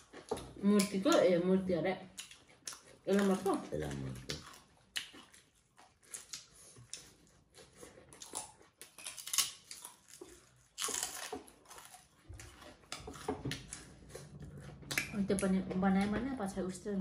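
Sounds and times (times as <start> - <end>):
crunching and chewing vegetables: 0.0 - 16.2.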